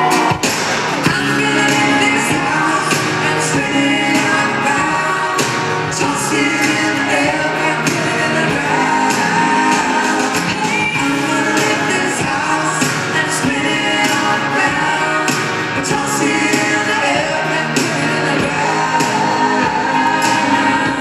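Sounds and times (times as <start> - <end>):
live country band playing: 0.0 - 21.0
person singing: 0.0 - 21.0
steady drum beat: 0.0 - 21.0.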